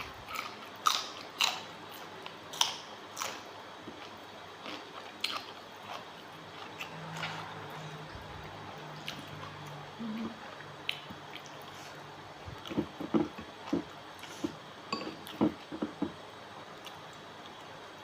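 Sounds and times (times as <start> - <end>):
person chewing wetly: 0.0 - 14.6.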